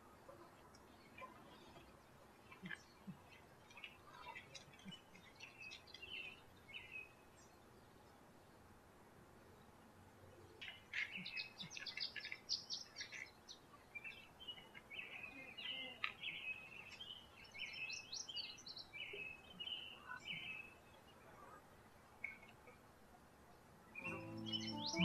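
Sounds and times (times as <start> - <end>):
songbirds singing: 0.0 - 8.7, 9.4 - 22.8, 23.5 - 25.0.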